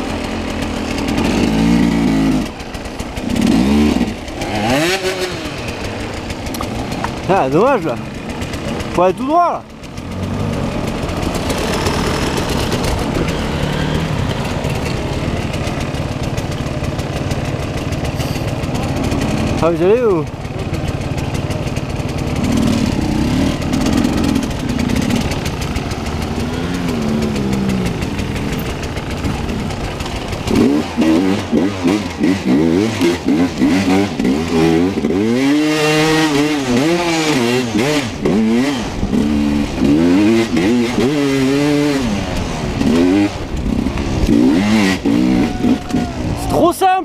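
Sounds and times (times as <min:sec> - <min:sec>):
dirt bike engine revving: 0:00.0 - 0:46.6.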